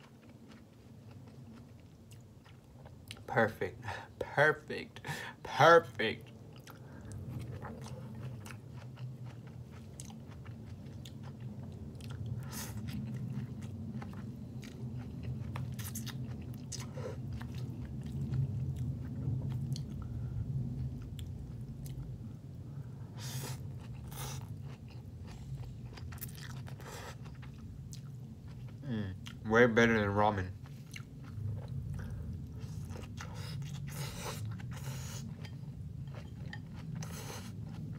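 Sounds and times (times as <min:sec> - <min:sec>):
person chewing: 0:00.0 - 0:03.3, 0:06.2 - 0:20.1, 0:23.2 - 0:29.4, 0:30.6 - 0:37.9
steady low hum: 0:00.0 - 0:37.9.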